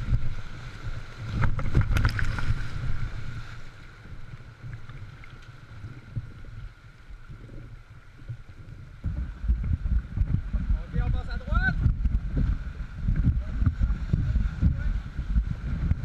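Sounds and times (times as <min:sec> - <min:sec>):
waves slapping against hull: 0:00.0 - 0:16.0
wind buffeting microphone: 0:00.0 - 0:16.0.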